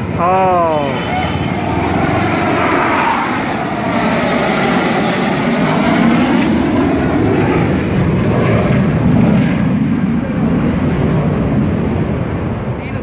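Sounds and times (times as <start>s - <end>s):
jet engines passing low overhead: 0.0s - 13.0s.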